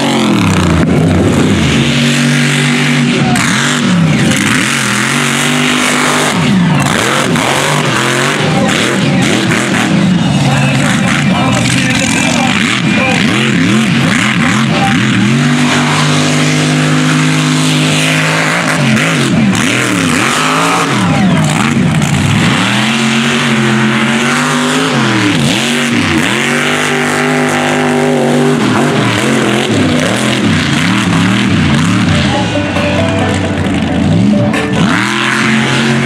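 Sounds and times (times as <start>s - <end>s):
truck engines revving hard: 0.0s - 36.0s.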